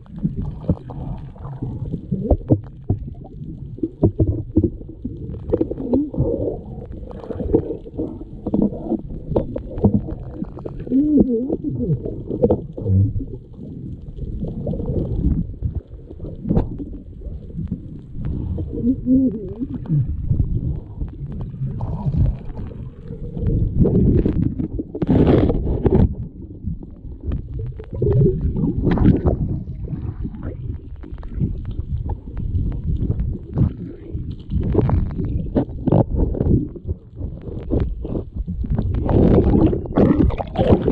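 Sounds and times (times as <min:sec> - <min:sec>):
underwater water rushing: 0:00.0 - 0:40.9.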